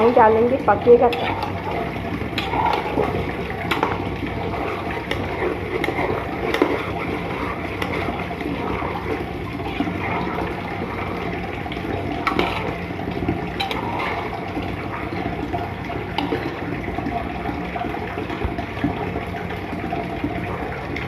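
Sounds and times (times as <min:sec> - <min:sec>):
water gushing into a pan: 0:00.0 - 0:21.0.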